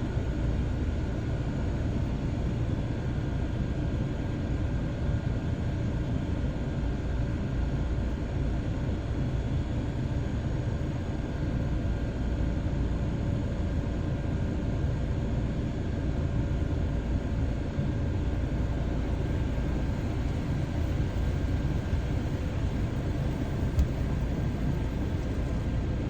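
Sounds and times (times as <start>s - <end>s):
faint constant hum: 0.0s - 26.0s.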